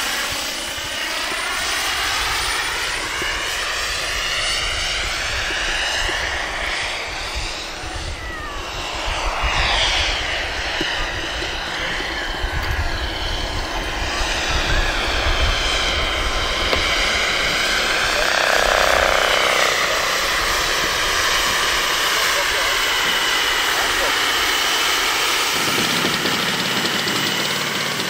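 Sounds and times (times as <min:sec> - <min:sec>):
model helicopter turbine and rotors: 0:00.0 - 0:28.0.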